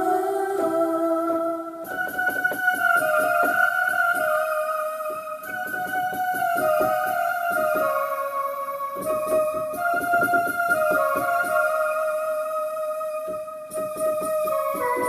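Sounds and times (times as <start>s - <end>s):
rhythmic accompaniment: 0.0s - 12.5s.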